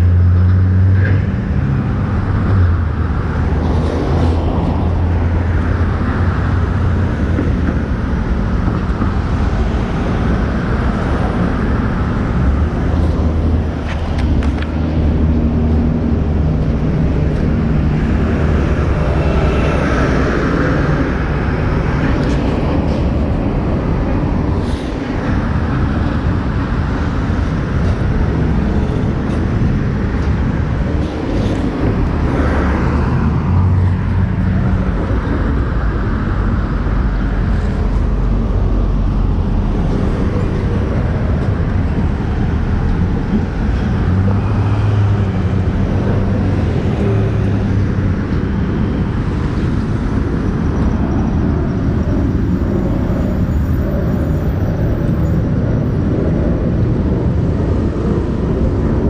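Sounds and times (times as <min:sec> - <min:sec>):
motorcycle road and engine noise: 0:00.0 - 0:59.0.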